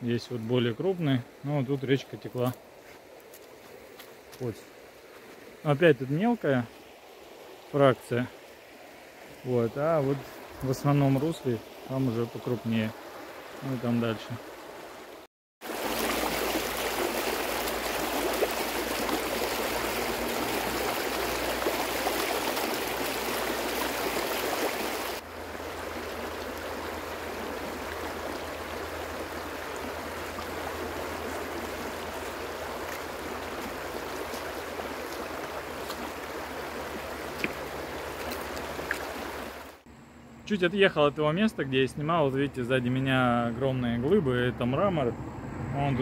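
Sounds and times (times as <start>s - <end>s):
river rushing over gravel: 0.2s - 39.8s.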